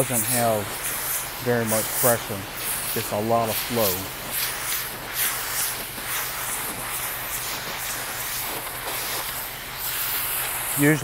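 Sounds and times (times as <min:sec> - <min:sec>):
pressure washer spraying concrete: 0:00.0 - 0:11.0.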